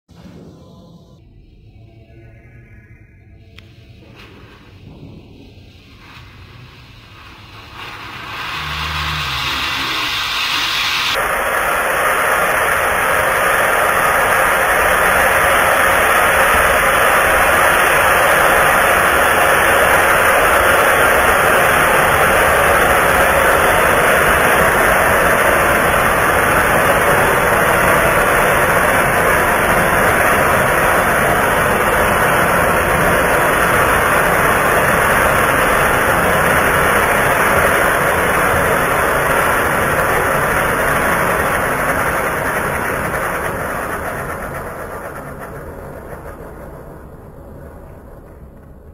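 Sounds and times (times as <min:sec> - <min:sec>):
firework fountain hissing: 0:03.8 - 0:48.8.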